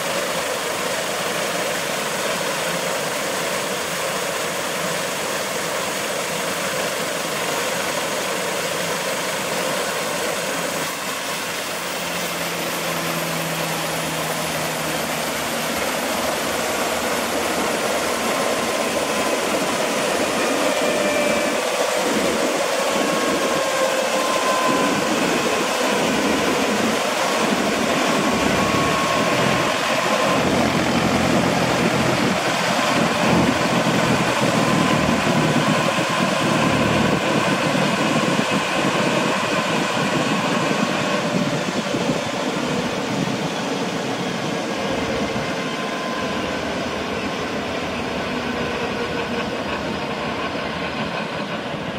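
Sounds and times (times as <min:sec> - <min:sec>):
helicopter engines running: 0:00.0 - 0:51.9
turbine whine: 0:00.0 - 0:51.9.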